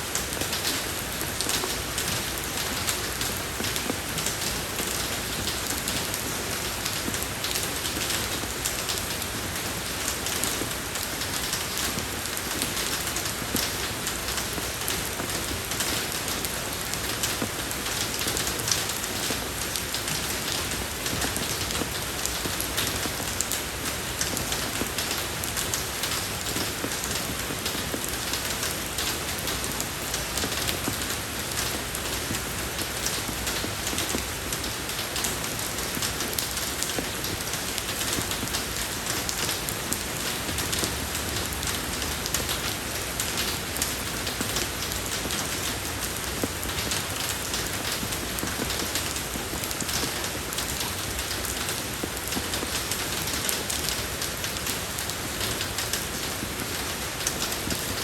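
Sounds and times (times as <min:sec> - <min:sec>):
rain on a road: 0:00.0 - 0:58.0.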